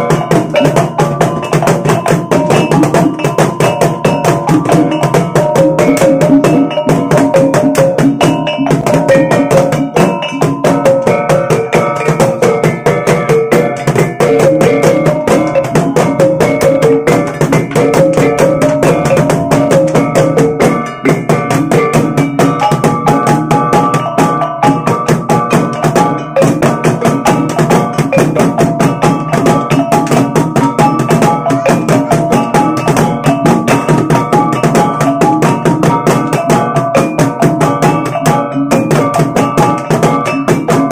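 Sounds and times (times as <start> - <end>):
drums beaten rapidly with sticks: 0.0 - 40.9.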